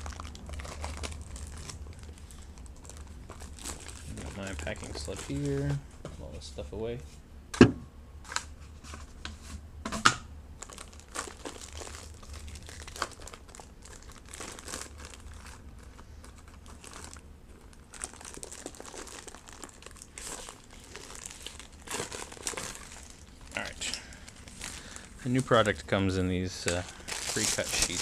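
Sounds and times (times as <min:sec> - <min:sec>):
paper packaging crinkling: 0:00.0 - 0:05.8, 0:10.6 - 0:28.0.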